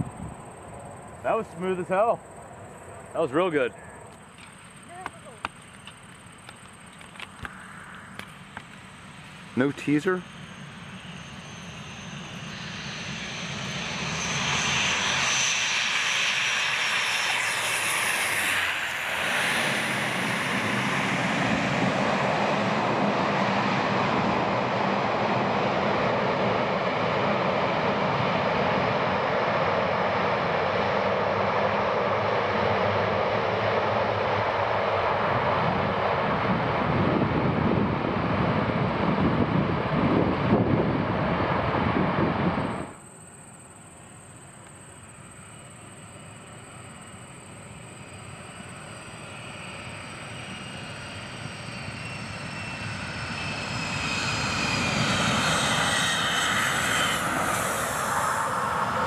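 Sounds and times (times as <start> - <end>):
propeller aircraft landing: 0.0 - 59.0.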